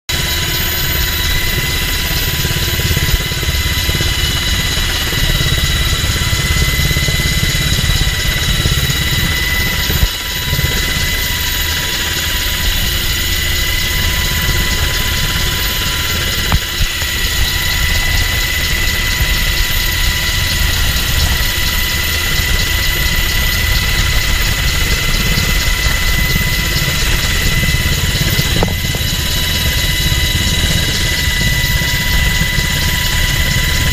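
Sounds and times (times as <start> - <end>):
helicopter rotors and engines: 0.1 - 33.9.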